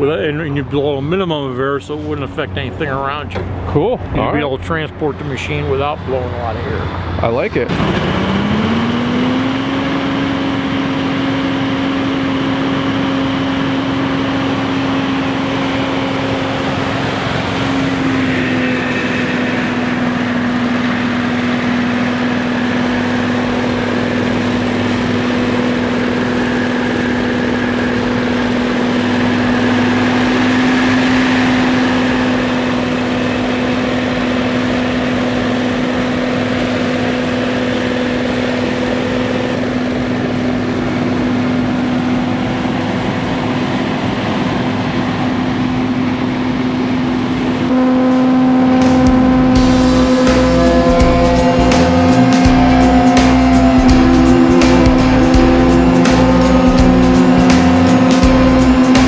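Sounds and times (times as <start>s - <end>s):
leaf blower whine and air rush: 5.2s - 59.0s.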